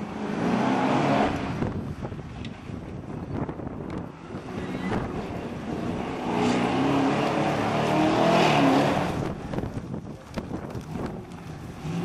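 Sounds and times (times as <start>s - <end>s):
buggy engine revving: 0.0s - 2.2s, 3.6s - 12.0s.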